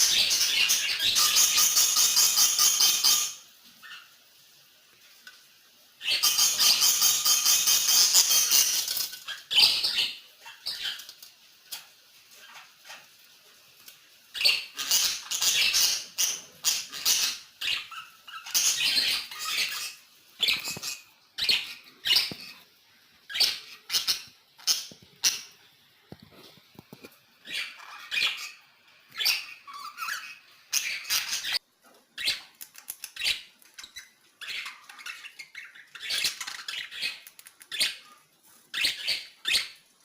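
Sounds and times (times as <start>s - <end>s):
pet birds chirping: 0.0s - 4.2s, 6.0s - 13.2s, 14.3s - 25.6s, 27.4s - 40.0s.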